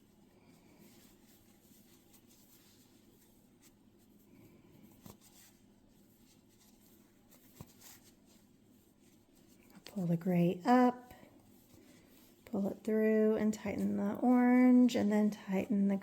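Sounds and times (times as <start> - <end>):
yarn rustling: 0.0 - 16.0.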